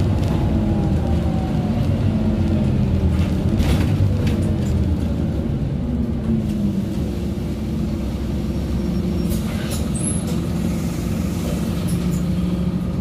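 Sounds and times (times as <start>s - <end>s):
bus diesel engine: 0.0s - 13.0s.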